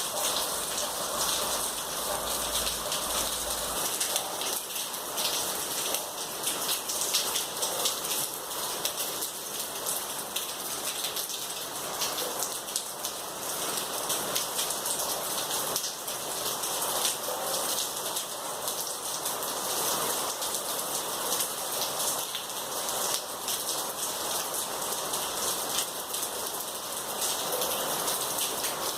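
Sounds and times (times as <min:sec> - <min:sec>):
heavy rain on hard surfaces: 0:00.0 - 0:28.9.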